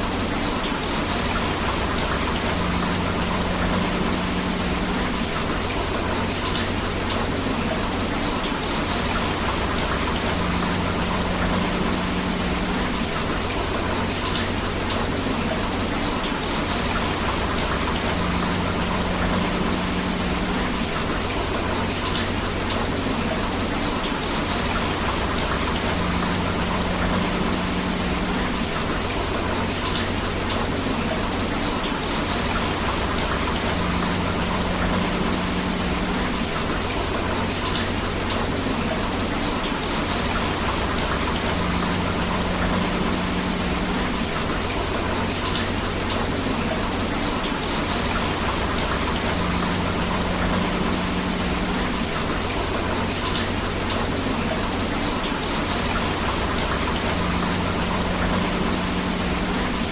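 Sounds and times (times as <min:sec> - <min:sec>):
river water flowing: 0:00.0 - 0:59.9
steady rain: 0:00.0 - 0:59.9.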